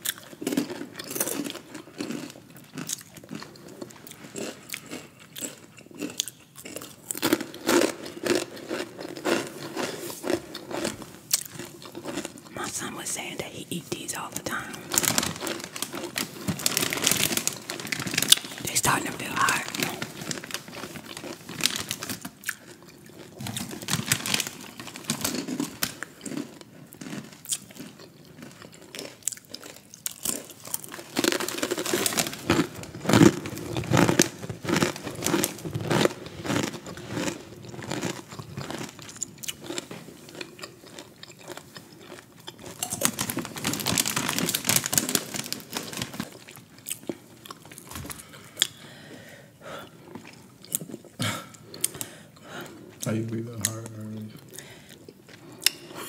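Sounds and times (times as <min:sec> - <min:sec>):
chips crunching in mouth: 0:00.0 - 0:48.8.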